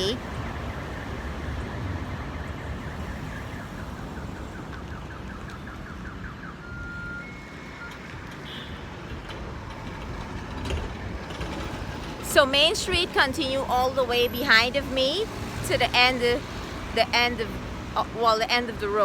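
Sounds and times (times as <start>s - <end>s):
traffic rumble on wet street: 0.0s - 19.0s.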